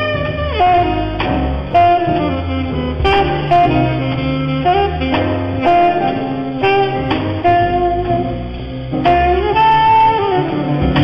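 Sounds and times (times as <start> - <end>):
bass: 0.0 - 11.0
drum kit: 0.0 - 11.0
saxophone note: 0.0 - 11.0.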